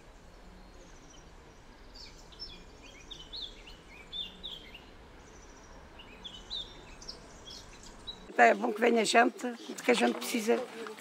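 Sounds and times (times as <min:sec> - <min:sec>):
faint low hum: 0:00.0 - 0:10.9
small birds chirping: 0:00.0 - 0:10.9.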